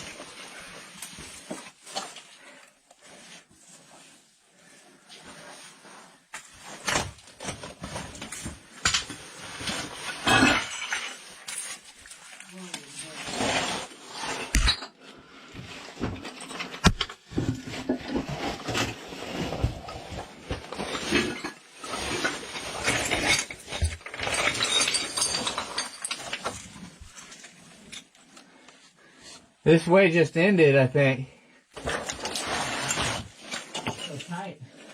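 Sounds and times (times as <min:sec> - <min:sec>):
scraping and rustling on rock: 0:00.0 - 0:14.6, 0:15.9 - 0:29.4, 0:31.8 - 0:34.9.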